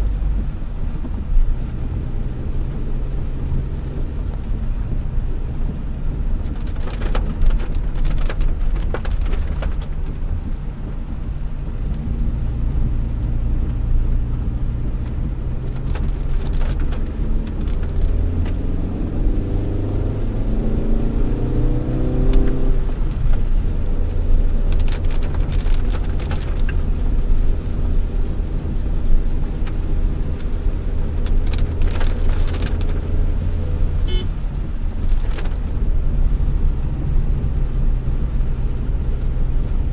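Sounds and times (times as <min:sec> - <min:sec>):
car engine and road drone: 0:00.0 - 0:39.9
rain hitting car: 0:00.0 - 0:39.9.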